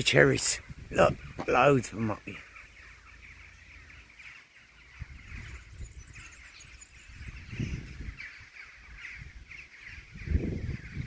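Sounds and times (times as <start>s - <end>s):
rooks cawing: 0.4s - 11.0s.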